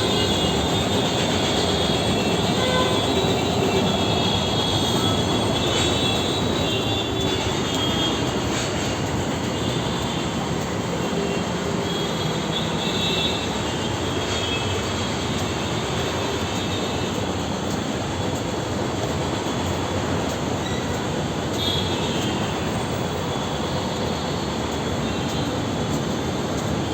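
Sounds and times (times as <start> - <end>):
street traffic: 0.0 - 26.9.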